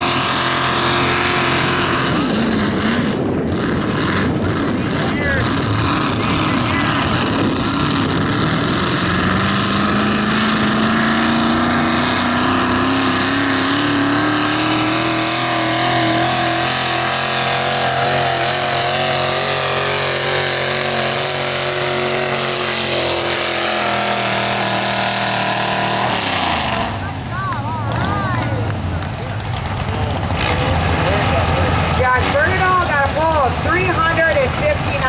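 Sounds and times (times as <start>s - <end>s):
truck engine at full throttle: 0.0s - 35.0s.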